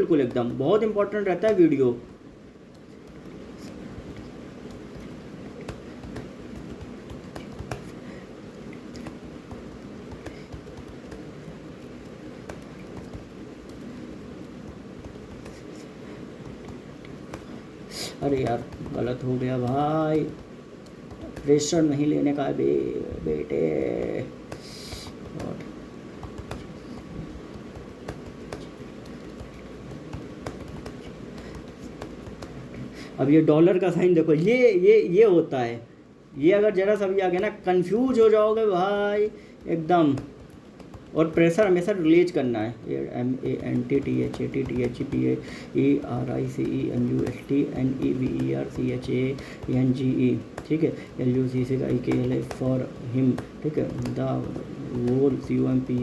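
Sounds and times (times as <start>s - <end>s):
low room hum: 0.0s - 56.0s
keyboard typing: 2.7s - 17.6s, 18.2s - 32.9s, 36.9s - 56.0s.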